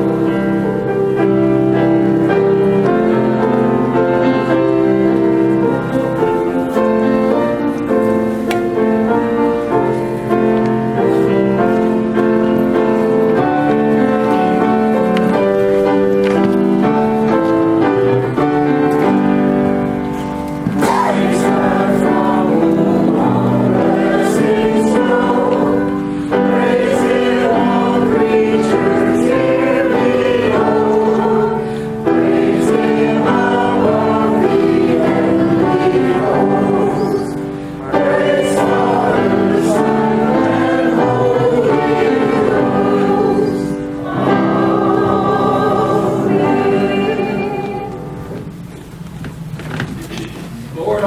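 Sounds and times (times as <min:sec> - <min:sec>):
choir singing a slow hymn: 0:00.0 - 0:48.6.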